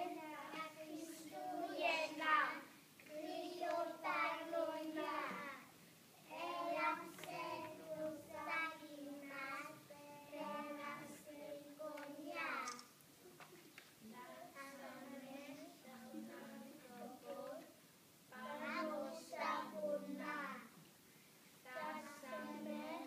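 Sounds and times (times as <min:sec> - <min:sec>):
young children singing: 0:00.0 - 0:12.9, 0:14.2 - 0:20.8, 0:21.6 - 0:23.0.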